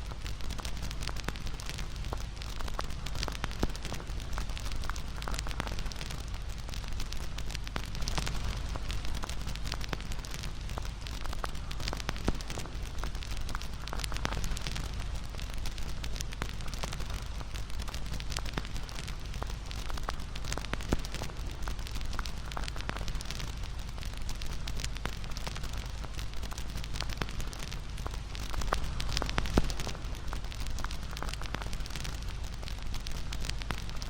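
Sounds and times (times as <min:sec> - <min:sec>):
bonfire crackling: 0:00.0 - 0:34.0
low rumble of flames: 0:00.0 - 0:34.0.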